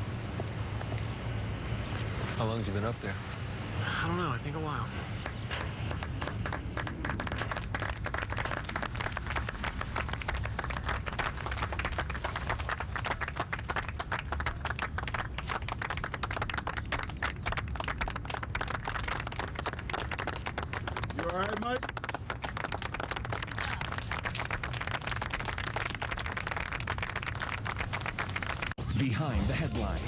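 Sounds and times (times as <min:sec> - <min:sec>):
people clapping: 0:04.7 - 0:28.8.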